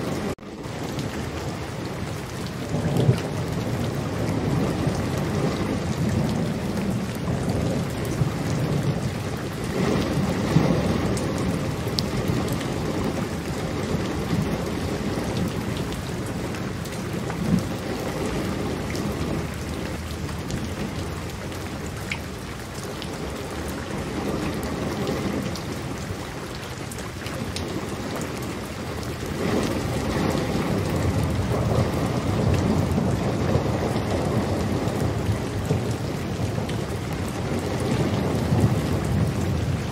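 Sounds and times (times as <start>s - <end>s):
low rolling thunder: 0.0s - 26.6s, 27.3s - 39.9s
steady rain: 0.0s - 39.9s.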